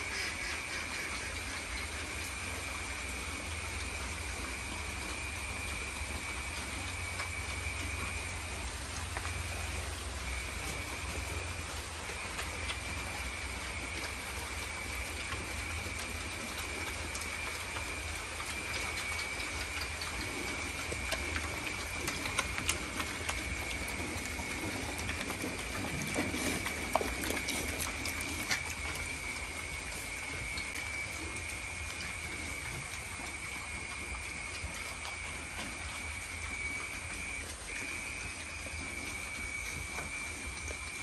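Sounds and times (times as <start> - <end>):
pigs chewing and crunching feed: 0.0 - 41.0.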